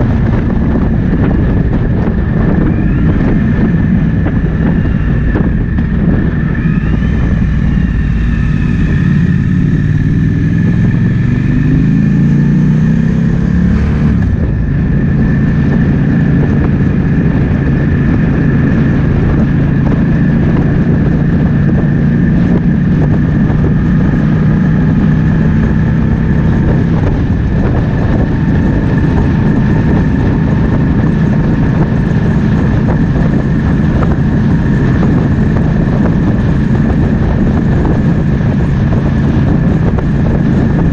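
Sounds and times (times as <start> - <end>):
motorcycle engine accelerating: 0.0 - 40.9
wind noise on microphone: 0.0 - 40.9.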